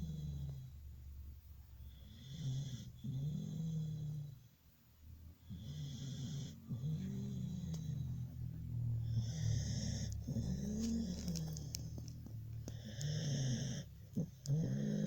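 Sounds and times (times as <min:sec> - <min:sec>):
pet snoring: 0:00.0 - 0:00.8, 0:01.8 - 0:04.5, 0:05.4 - 0:15.0.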